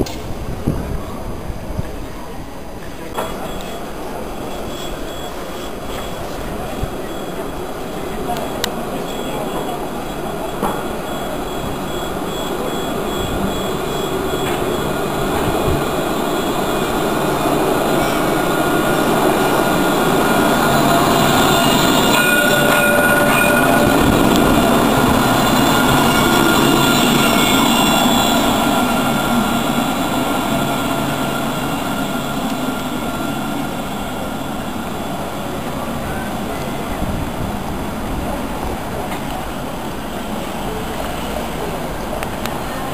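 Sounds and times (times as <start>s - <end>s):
tram passing with high whine: 0.0s - 42.9s.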